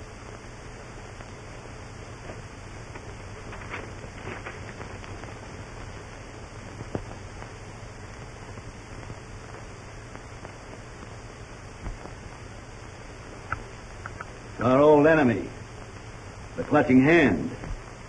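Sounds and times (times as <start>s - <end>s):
crackles and pops: 0.0s - 18.0s
film soundtrack hiss: 0.0s - 18.0s.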